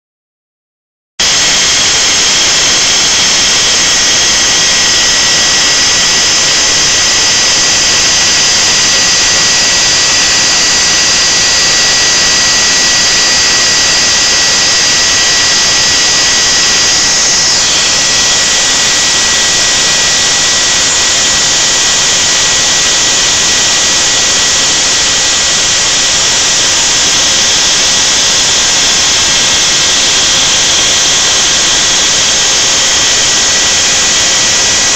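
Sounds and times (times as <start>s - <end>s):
end mill carving foam: 1.2s - 34.9s
router spindle motor whining: 1.2s - 34.9s.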